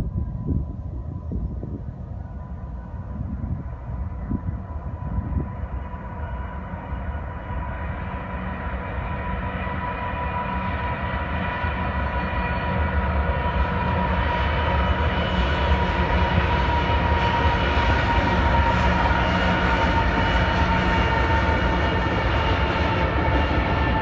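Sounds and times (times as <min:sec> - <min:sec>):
diesel train rumble: 0:00.0 - 0:24.0.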